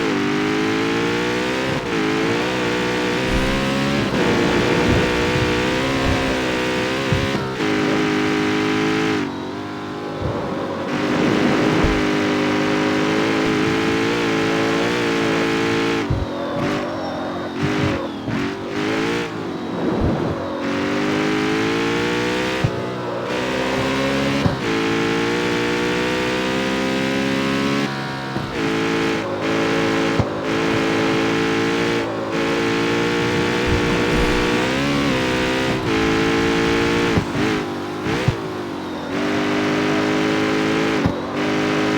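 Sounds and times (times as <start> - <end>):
car engine shifting through gears: 0.0 - 41.9
exhaust crackles and pops: 1.2 - 41.9.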